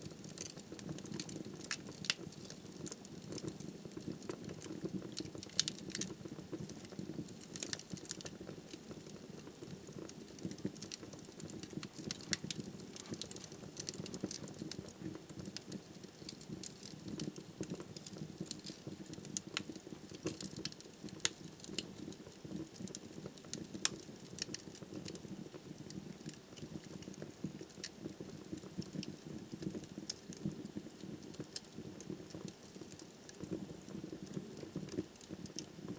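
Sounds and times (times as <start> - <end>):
fire crackling and popping: 0.0 - 35.9
low sound of flames: 0.0 - 35.9.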